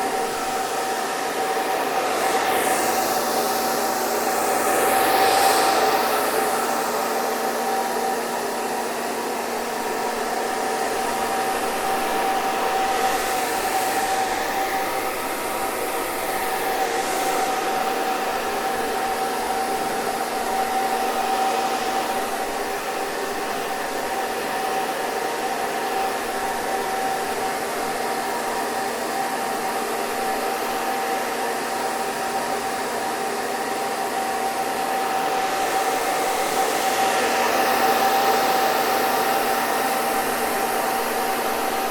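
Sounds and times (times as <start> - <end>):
hair dryer running: 0.0 - 41.9.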